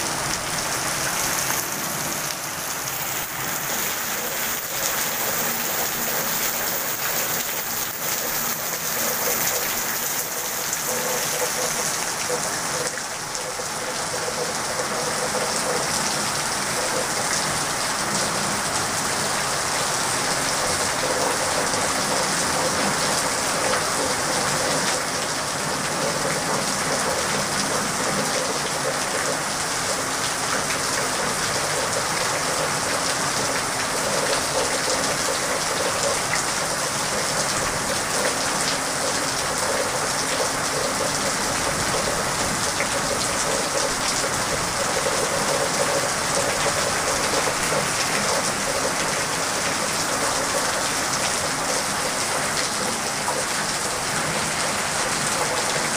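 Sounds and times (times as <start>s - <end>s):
rain splashing on ground: 0.0s - 55.9s.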